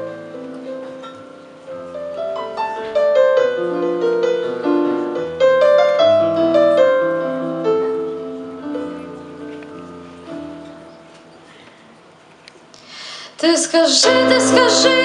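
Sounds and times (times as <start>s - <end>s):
digital piano chords and melody: 0.0s - 12.2s, 13.9s - 15.0s.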